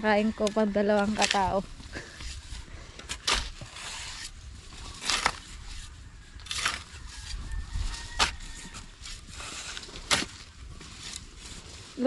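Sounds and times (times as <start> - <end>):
shovels scraping into soil: 0.2 - 12.0.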